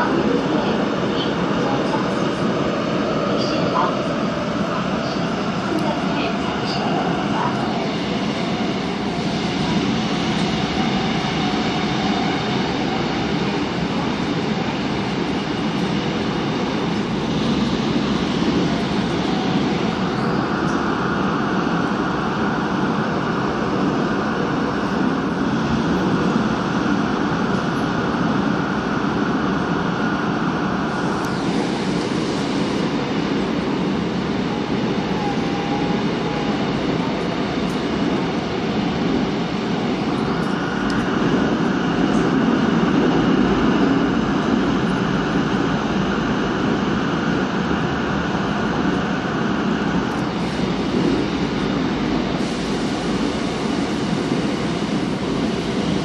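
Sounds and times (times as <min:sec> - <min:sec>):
train rumbling in tunnel: 0:00.0 - 0:56.0.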